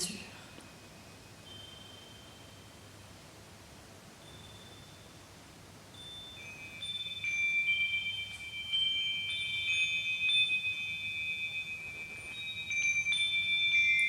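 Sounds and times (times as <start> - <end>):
wind chimes ringing: 0.0 - 3.3, 4.2 - 14.0.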